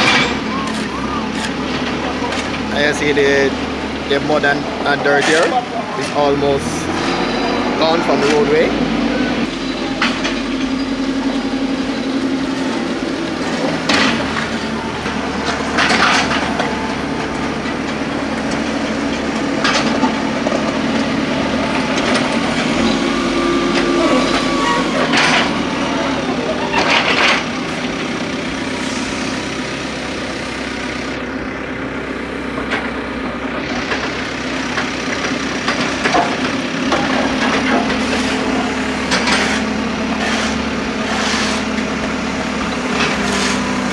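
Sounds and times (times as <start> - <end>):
heavy vehicle engine running: 0.0 - 43.9.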